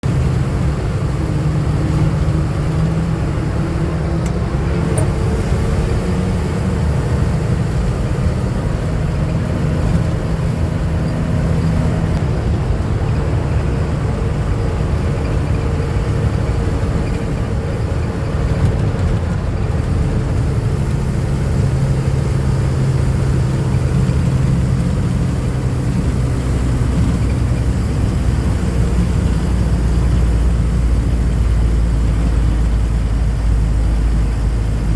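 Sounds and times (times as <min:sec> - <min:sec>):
truck engine droning: 0:00.0 - 0:34.9.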